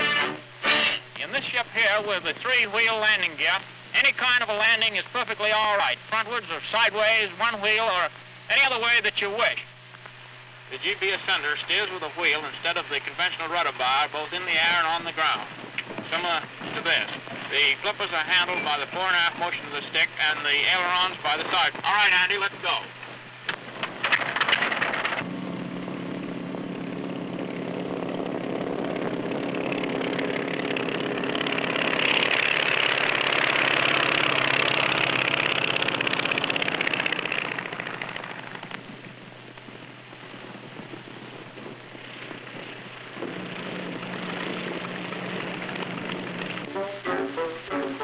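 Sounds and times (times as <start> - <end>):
propeller airplane engine drone: 0.0 - 48.0.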